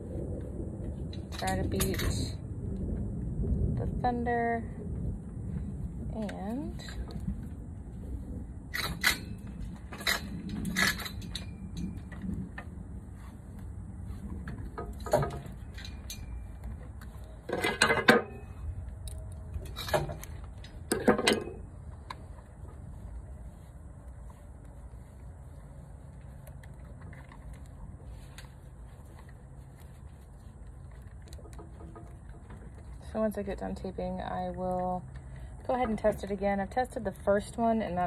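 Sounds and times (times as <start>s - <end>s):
low steady rumble: 0.0s - 38.0s.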